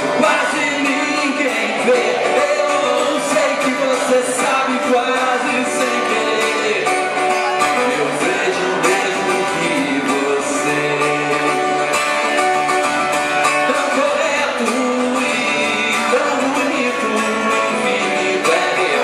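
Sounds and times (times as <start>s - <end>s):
guitar playing: 0.0s - 19.0s
man singing: 0.0s - 19.0s.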